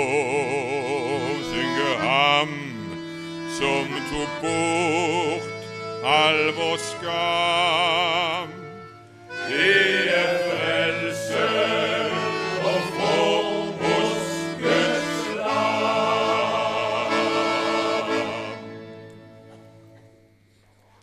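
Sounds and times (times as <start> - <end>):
male vocal group singing: 0.0 - 8.6, 9.3 - 18.9
accordion: 0.0 - 20.8.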